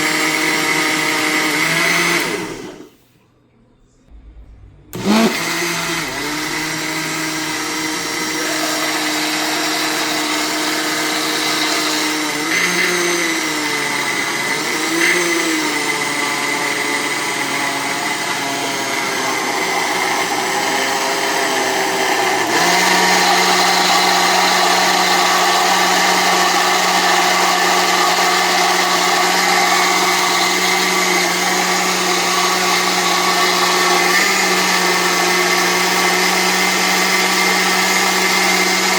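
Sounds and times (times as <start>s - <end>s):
blender motor running: 0.0s - 3.0s, 4.9s - 38.9s.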